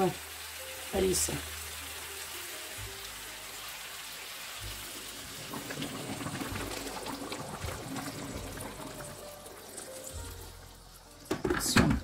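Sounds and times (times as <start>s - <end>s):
boiling water pouring into pan: 0.0s - 11.9s.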